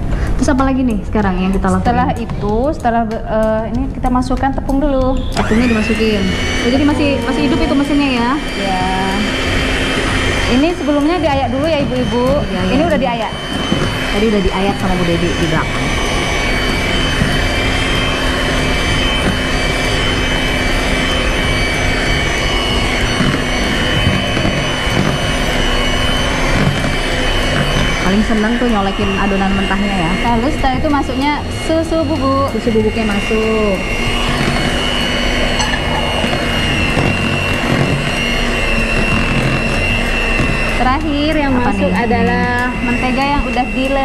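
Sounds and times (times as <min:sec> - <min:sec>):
electric hand mixer running: 0:00.0 - 0:44.0.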